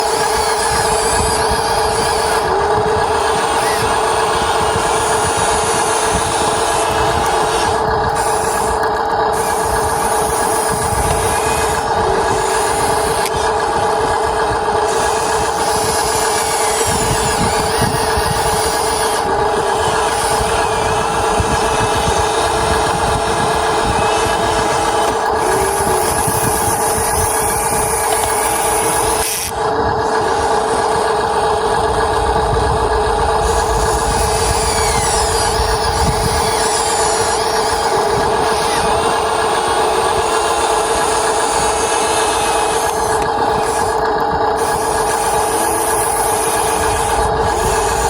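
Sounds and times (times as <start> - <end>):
small electric motors whirring: 0.0 - 48.0.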